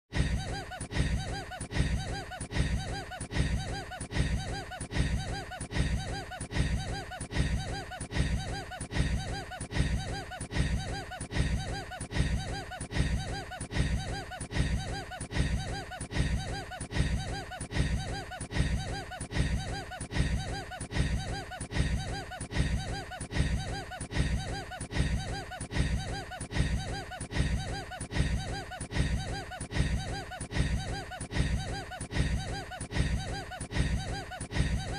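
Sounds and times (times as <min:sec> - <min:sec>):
man snickering: 0:00.2 - 0:34.9.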